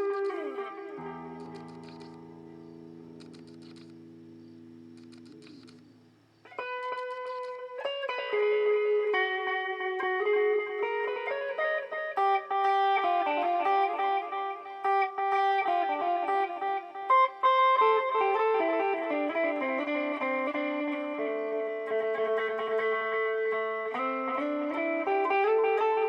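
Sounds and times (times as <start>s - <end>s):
electric guitar with delay echoes: 0.0s - 26.0s.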